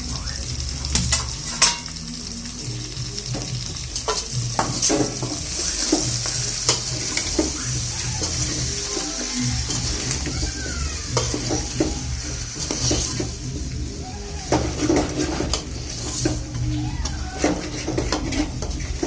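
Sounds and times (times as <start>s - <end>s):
chicken sizzling in oil: 0.0s - 19.0s
spatula scraping a pan: 0.2s - 2.0s, 3.2s - 19.0s.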